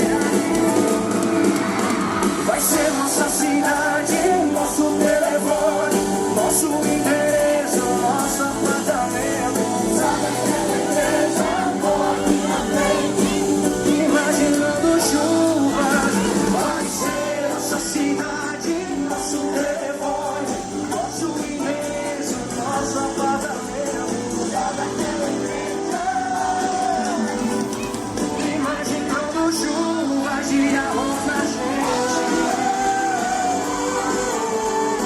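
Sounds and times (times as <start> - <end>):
live band pop music: 0.0 - 35.0
person singing: 0.0 - 35.0.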